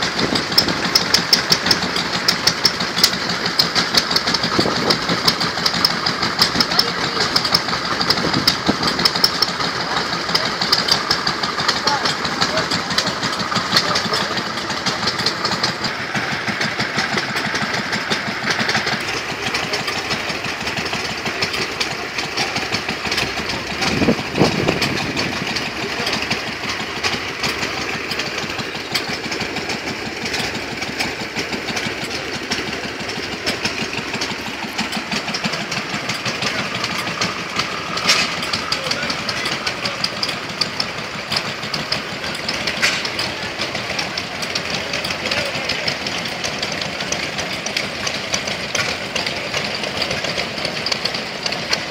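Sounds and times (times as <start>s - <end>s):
stationary engines running: 0.0s - 51.9s.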